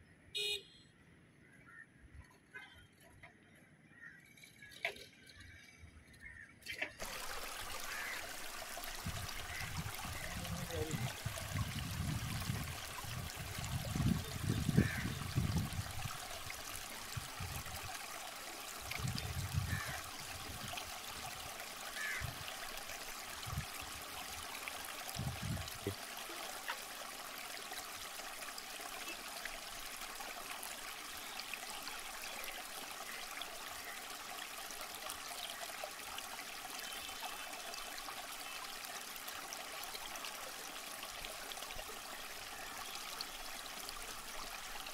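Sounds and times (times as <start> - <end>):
water babbling through a sluice: 2.2 - 44.9.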